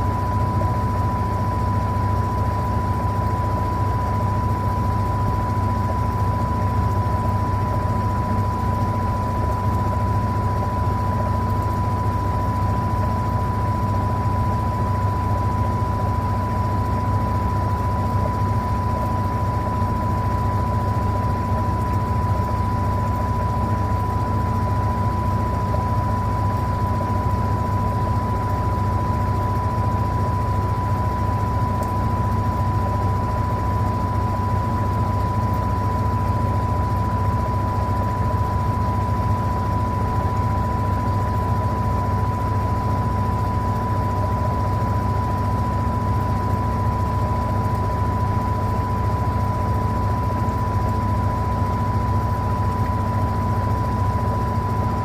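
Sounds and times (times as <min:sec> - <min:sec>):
washing machine hum and whine: 0:00.0 - 0:55.0.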